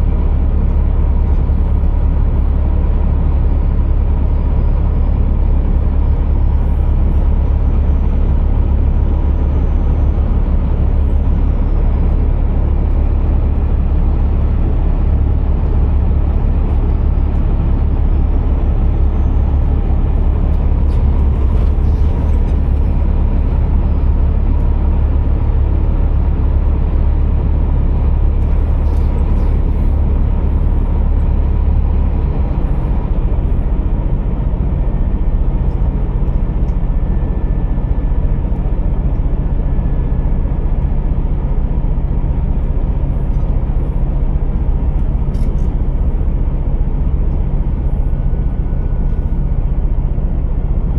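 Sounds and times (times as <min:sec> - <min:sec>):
truck diesel engine droning: 0:00.0 - 0:50.9.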